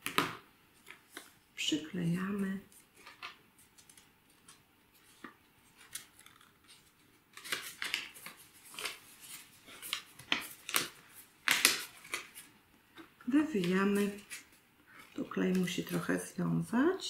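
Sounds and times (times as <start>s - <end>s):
paper rustling and crinkling: 2.6s - 16.4s.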